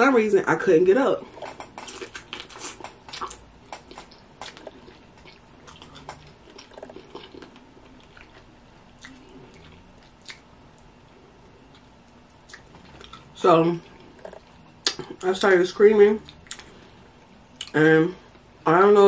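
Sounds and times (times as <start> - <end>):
soft chewing and lip smacks: 1.4 - 15.2, 16.2 - 18.5.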